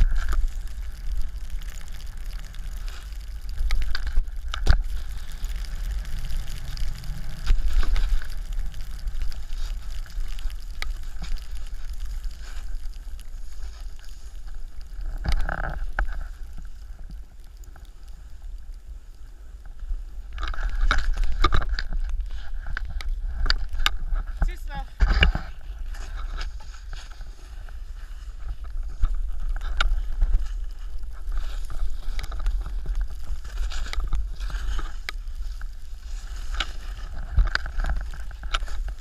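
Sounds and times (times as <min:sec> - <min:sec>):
snowboard scraping over snow: 0:00.0 - 0:21.3, 0:21.9 - 0:39.0
wind rumble on microphone: 0:00.0 - 0:39.0.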